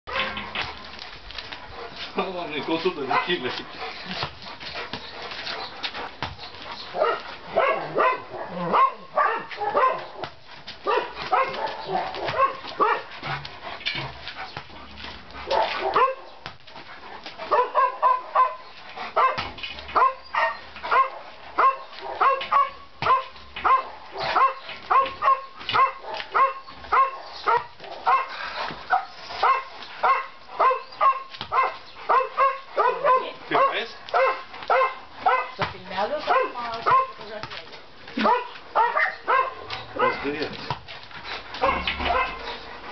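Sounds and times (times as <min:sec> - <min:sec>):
dog barking and yipping: 0:00.1 - 0:00.5, 0:02.6 - 0:13.5, 0:15.4 - 0:16.5, 0:17.4 - 0:37.4, 0:38.2 - 0:42.9.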